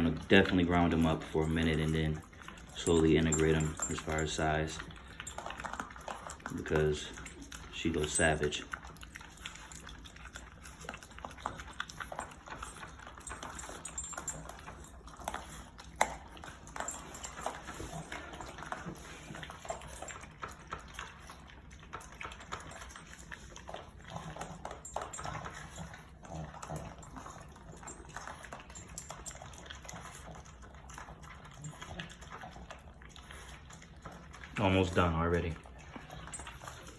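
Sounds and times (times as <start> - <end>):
dogs chewing and lapping: 0.0 - 36.9.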